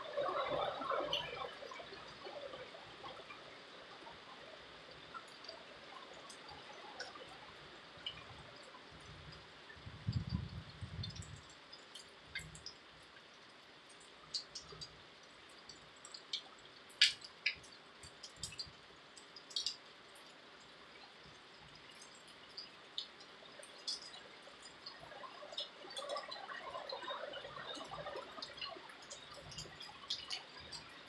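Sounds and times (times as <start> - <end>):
faint steady hiss: 0.0 - 31.0
raindrops dripping and tapping: 0.0 - 31.0.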